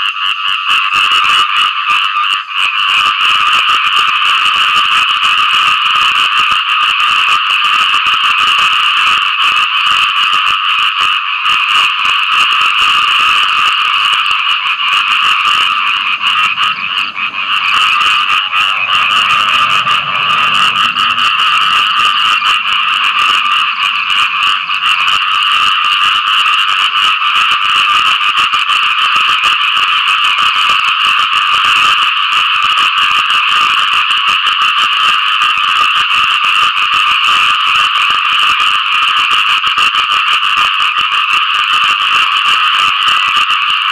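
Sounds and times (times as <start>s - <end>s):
frogs chorus: 0.0s - 43.9s.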